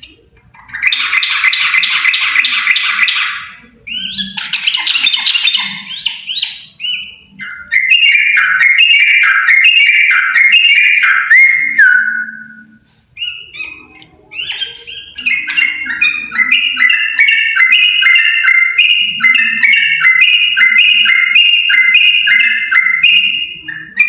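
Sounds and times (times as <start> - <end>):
bulbuls singing: 0.0 - 24.0.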